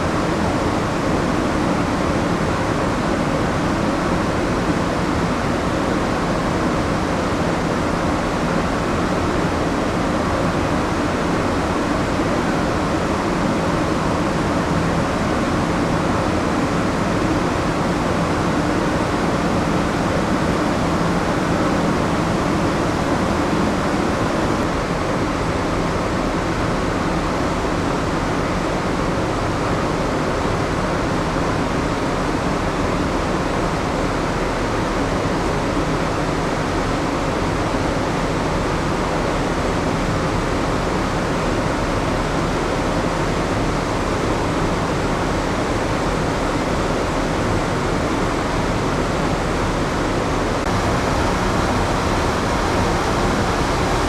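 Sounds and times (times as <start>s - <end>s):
low machinery drone: 0.0s - 54.0s
ship ventilation hum and rush: 0.0s - 54.0s.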